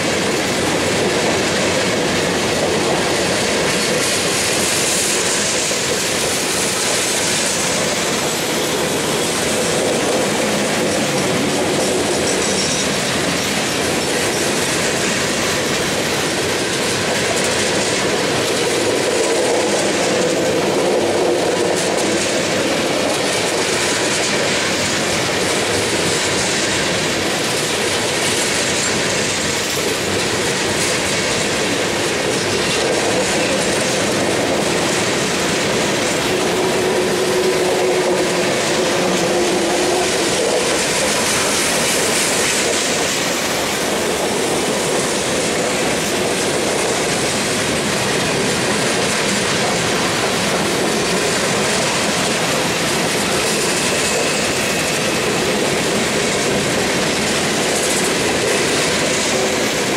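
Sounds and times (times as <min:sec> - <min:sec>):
clickety-clack over rail joints: 0:00.0 - 0:59.9
freight train wheels on rail: 0:00.0 - 0:59.9.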